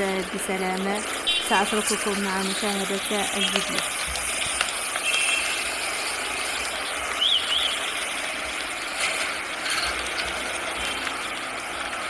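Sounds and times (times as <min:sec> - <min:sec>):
crackling outdoor noise: 0:00.0 - 0:12.0.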